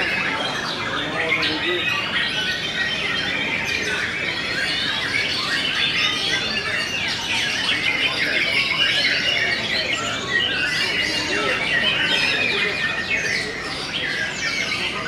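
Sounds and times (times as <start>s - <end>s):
many birds singing: 0.0s - 15.0s.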